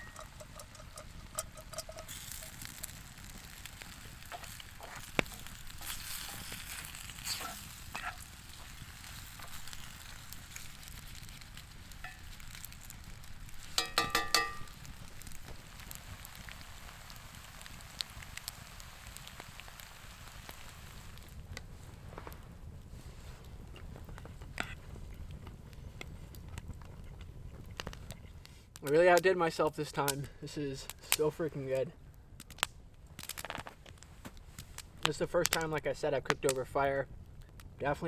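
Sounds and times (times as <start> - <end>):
food sizzling over campfire: 0.0 - 38.0.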